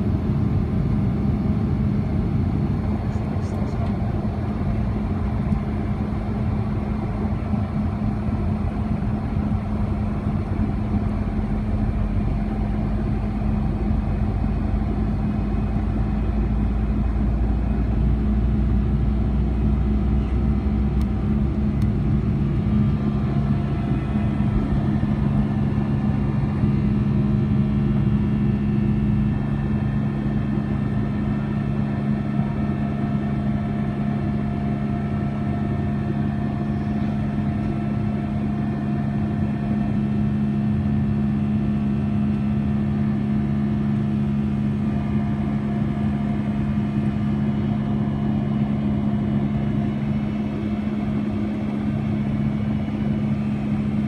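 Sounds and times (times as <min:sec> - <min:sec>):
jet engine drone with whine: 0:00.0 - 0:54.0.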